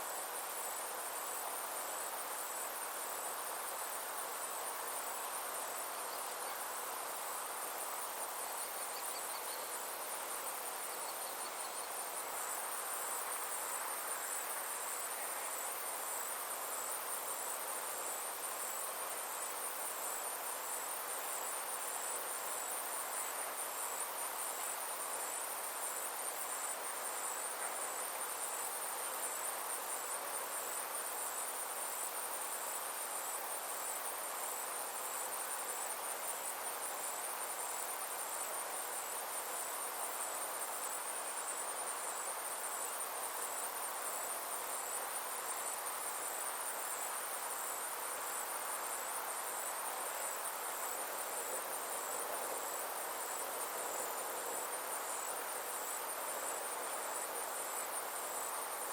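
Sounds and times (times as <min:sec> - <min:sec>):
insects trilling: 0:00.0 - 0:58.9
soft rushing hiss: 0:00.0 - 0:58.9.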